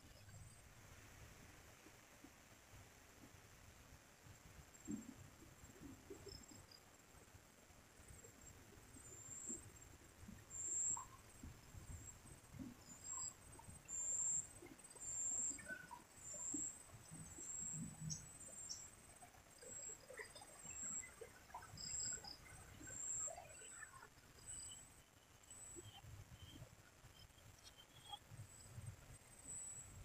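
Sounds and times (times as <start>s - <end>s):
insect chirping: 5.7s - 30.0s.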